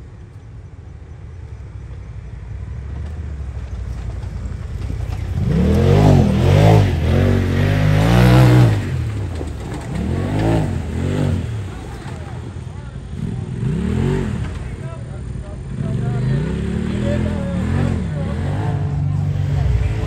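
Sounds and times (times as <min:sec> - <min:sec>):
off-road vehicle engine revving: 0:02.5 - 0:20.0.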